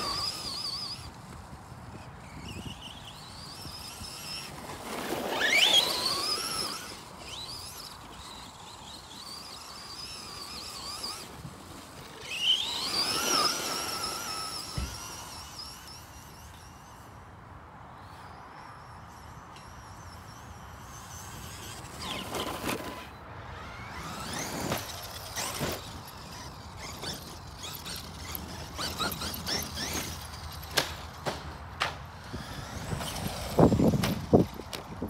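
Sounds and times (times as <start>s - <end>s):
electric motor whining: 0.0s - 17.2s, 19.6s - 30.8s.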